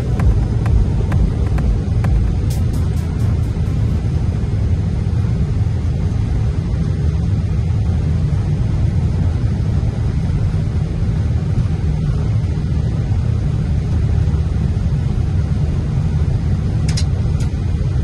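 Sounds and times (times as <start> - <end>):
airliner cockpit rumble: 0.0 - 18.0.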